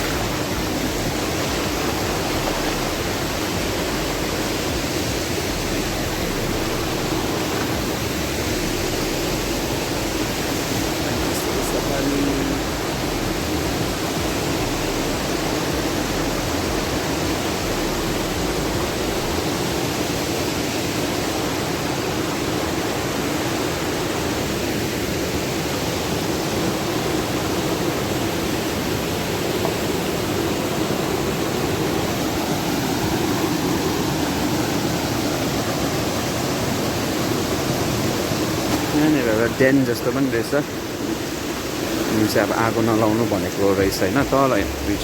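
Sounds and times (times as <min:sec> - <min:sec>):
mountain river rushing: 0:00.0 - 0:45.0.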